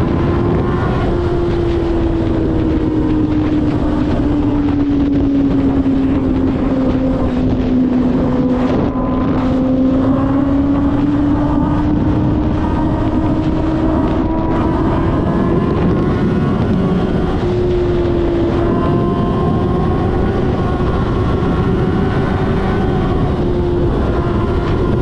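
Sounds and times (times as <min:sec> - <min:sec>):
motorcycle engine running: 0:00.0 - 0:25.0
wind noise rushing: 0:00.0 - 0:25.0.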